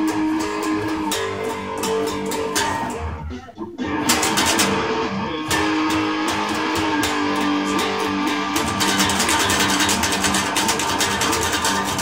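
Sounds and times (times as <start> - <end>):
electric guitar picking: 0.0 - 12.0.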